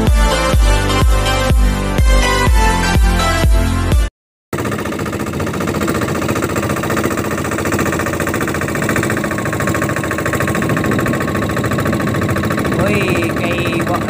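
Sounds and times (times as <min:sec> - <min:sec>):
boat engine running: 0:00.0 - 0:03.6, 0:04.6 - 0:14.0.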